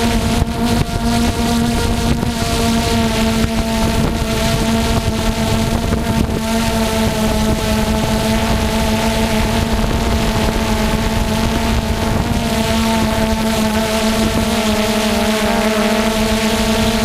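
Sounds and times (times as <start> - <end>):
small engine humming: 0.0 - 17.0
wind rumbling on microphone: 0.0 - 17.0.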